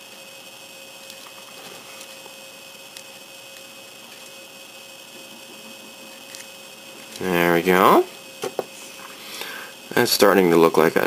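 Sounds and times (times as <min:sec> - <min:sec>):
electrical hum with whine: 0:00.0 - 0:11.0.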